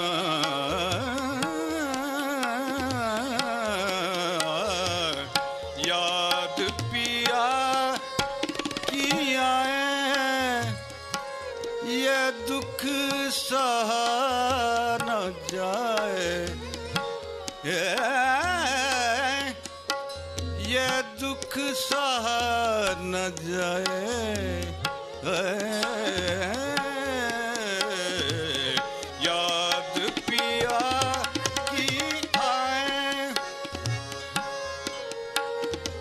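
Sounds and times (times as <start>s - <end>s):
person singing ornamented vocal runs: 0.0s - 8.2s, 8.8s - 11.0s, 11.7s - 16.9s, 20.4s - 34.3s
tabla strokes: 0.0s - 36.0s.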